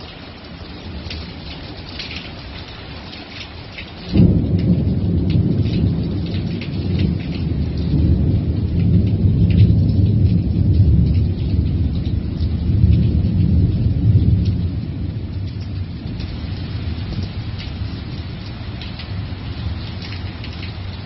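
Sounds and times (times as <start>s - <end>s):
rain pattering: 0.0s - 21.0s
thunder rumbling: 4.1s - 21.0s.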